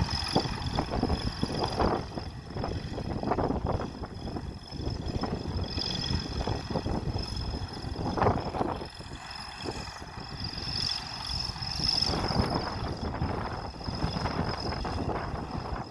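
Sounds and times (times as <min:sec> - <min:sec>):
diesel engines rumbling: 0:00.0 - 0:15.9
high-pitched whine: 0:00.0 - 0:15.9
wind buffeting microphone: 0:00.0 - 0:15.9.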